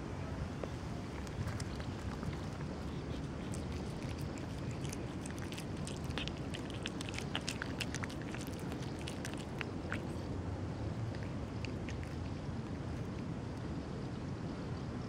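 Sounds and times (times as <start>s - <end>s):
low background rumble: 0.0s - 15.0s
cat chewing and lapping wet food: 0.4s - 14.1s.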